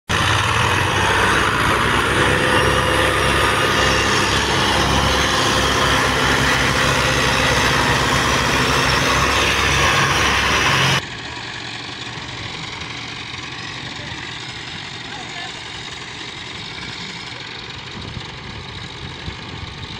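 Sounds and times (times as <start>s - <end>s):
tractor diesel engines under load: 0.1s - 19.9s.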